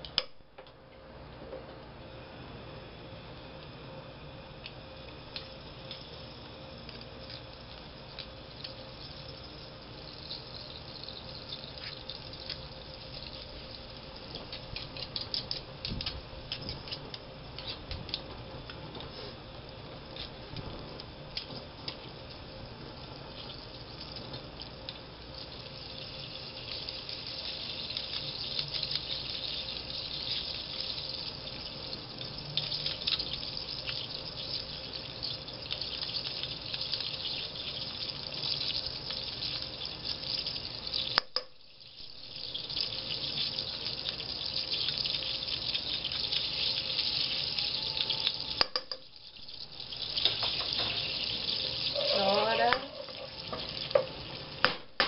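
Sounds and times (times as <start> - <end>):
garlic sizzling in oil: 4.8 - 54.8.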